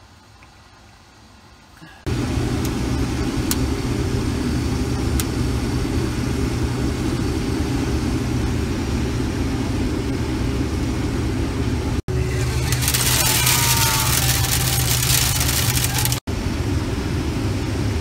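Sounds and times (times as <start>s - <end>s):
combine harvester drone: 0.0s - 18.0s.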